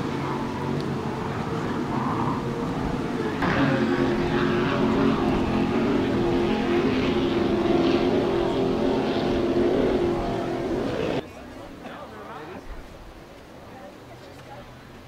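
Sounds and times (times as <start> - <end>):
boat engines droning: 0.0 - 15.0.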